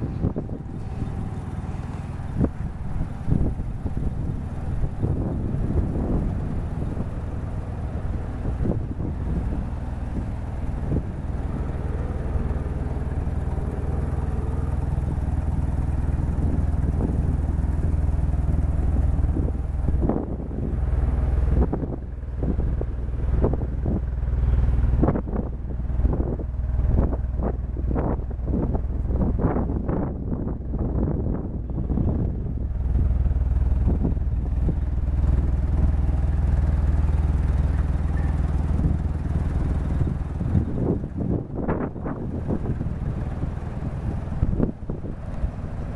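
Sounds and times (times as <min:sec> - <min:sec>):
rotary engine idling: 0:00.0 - 0:45.9.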